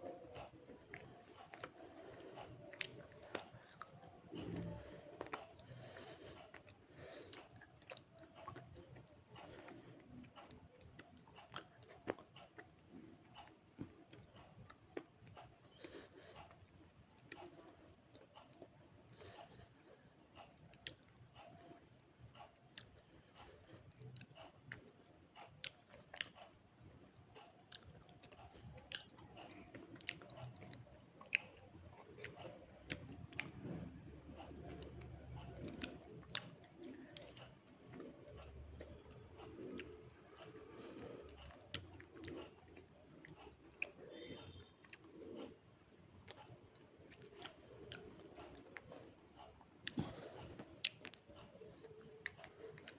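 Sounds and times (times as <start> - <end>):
chewing crunches and snaps: 0.3 - 19.7, 20.4 - 21.8, 22.4 - 52.9.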